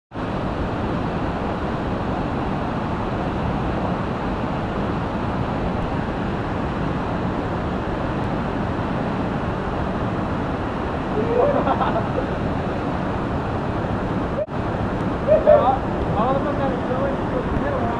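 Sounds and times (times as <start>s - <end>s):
waterfall rushing: 0.2s - 17.9s.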